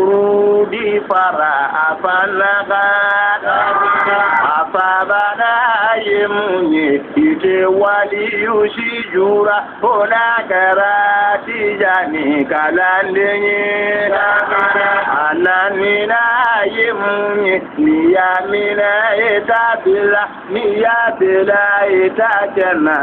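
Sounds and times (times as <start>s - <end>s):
person singing devotional chant: 0.0s - 23.0s.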